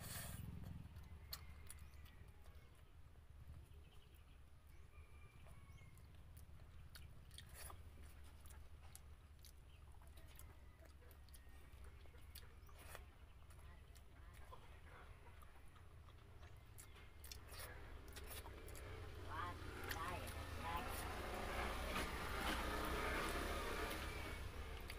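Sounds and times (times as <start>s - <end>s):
chewing and mouth clicks: 0.0s - 21.1s, 21.9s - 24.9s.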